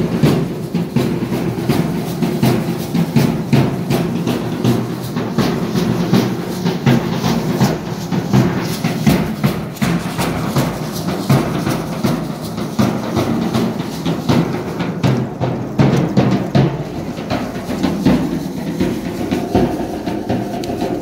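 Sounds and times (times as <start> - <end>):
bass drum beat: 0.0 - 21.0
street band dance music: 0.0 - 21.0.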